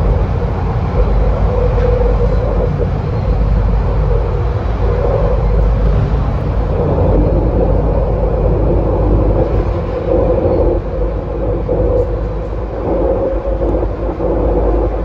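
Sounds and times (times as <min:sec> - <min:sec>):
subway train rumbling through tunnel: 0:00.0 - 0:15.0.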